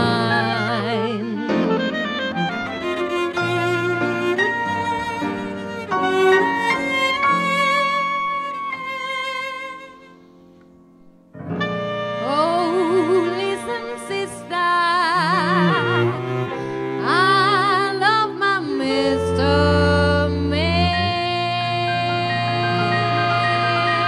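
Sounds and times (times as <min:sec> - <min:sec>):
clarinet: 0:00.0 - 0:10.4, 0:11.4 - 0:24.0
cello: 0:00.0 - 0:24.0
piano: 0:00.0 - 0:24.0.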